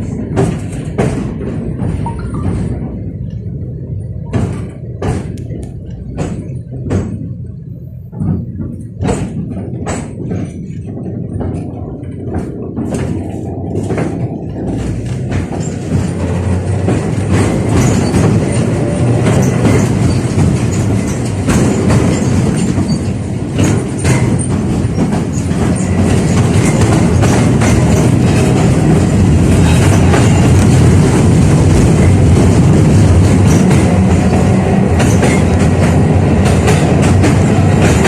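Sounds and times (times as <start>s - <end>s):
sharp clacks of tram wheels: 0.0s - 38.0s
tram rumbling on rails: 0.0s - 38.0s.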